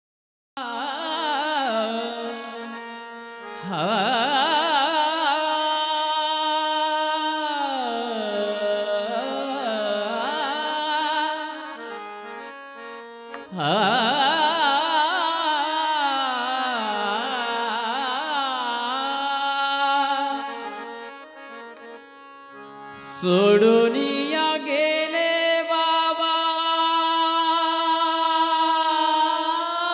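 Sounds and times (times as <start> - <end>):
harmonium chords: 0.6 - 29.9.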